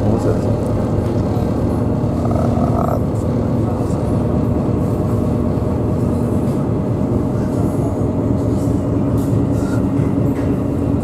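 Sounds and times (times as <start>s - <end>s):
ferry diesel engines droning: 0.0s - 11.0s.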